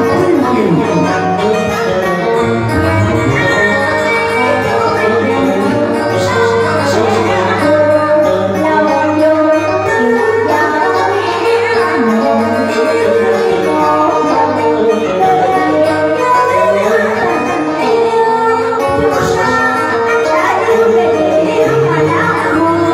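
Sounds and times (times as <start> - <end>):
electronic keyboard: 0.0 - 18.6
woman singing into microphone: 0.0 - 22.9.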